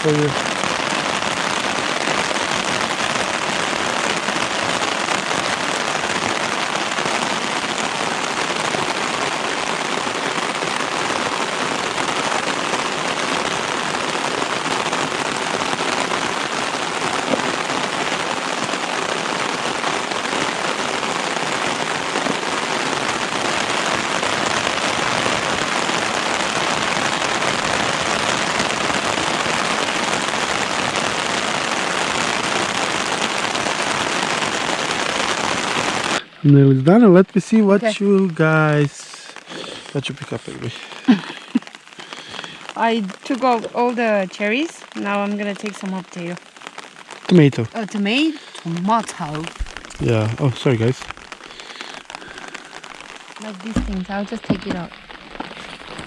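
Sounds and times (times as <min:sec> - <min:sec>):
heavy rain on umbrella: 0:00.0 - 0:56.0.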